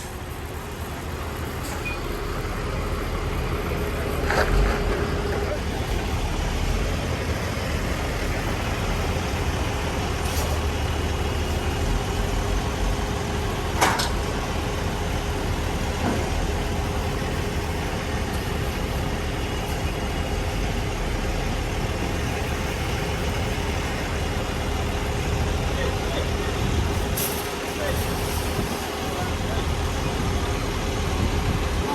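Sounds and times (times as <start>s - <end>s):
diesel truck engine running: 0.0s - 31.9s.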